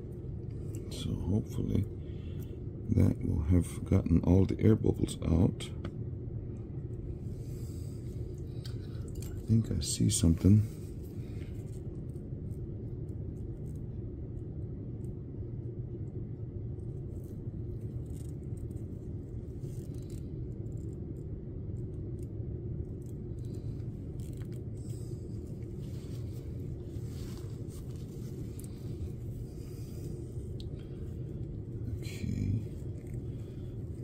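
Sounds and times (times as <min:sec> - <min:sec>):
low background rumble: 0:00.0 - 0:34.0.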